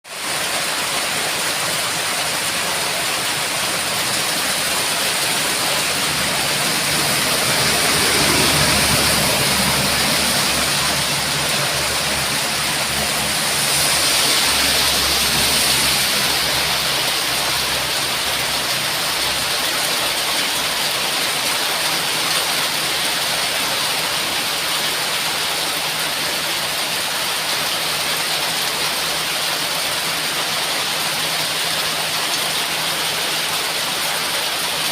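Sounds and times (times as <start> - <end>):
heavy rain hissing: 0.1 - 34.9.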